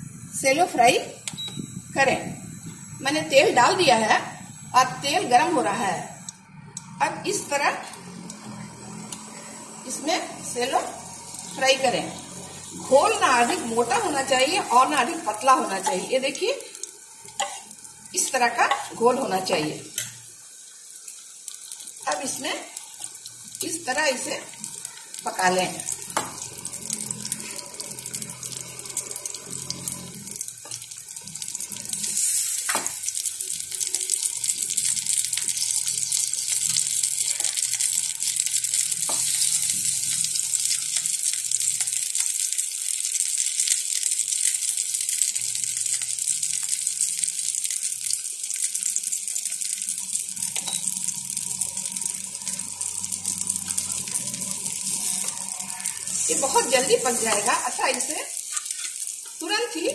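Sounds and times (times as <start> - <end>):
frying in hot oil sizzle: 0.0 - 59.9.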